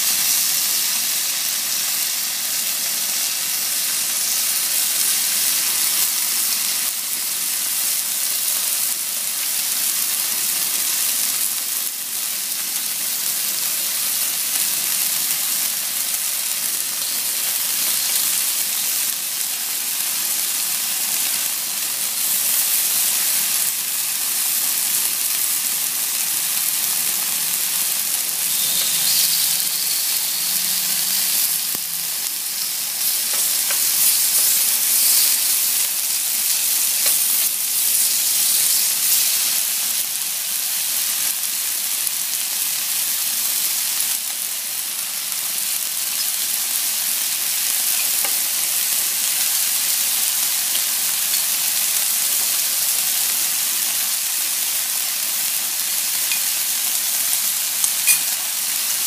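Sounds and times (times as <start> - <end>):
chicken sizzling on grill pan: 0.0 - 59.0.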